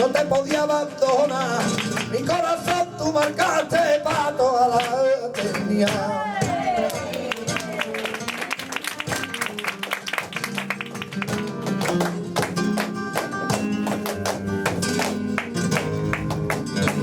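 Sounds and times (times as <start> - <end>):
flamenco guitar playing: 0.0 - 17.0.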